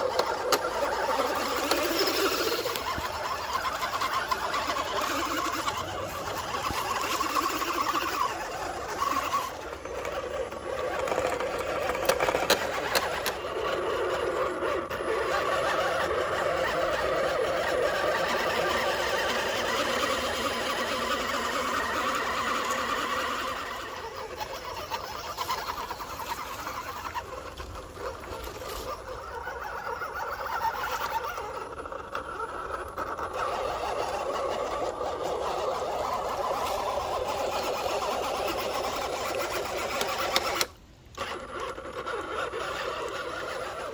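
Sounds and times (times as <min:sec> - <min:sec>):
toy truck electric motor whining: 0:00.0 - 0:43.9.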